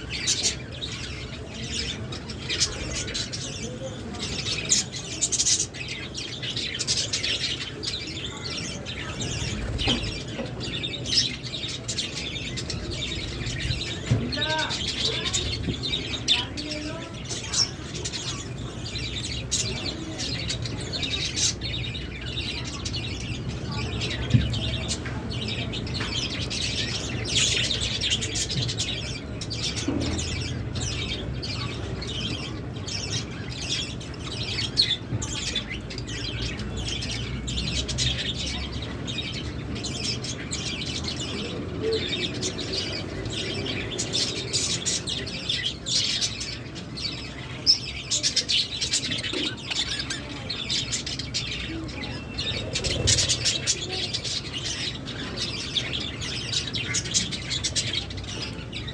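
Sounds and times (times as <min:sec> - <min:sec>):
lovebirds chirping and chattering: 0:00.0 - 0:58.9.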